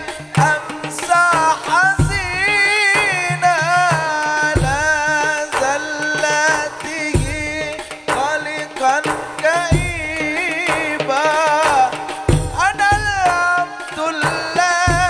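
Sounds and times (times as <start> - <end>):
drum percussion: 0.0 - 15.0
man singing devotional song: 0.0 - 15.0.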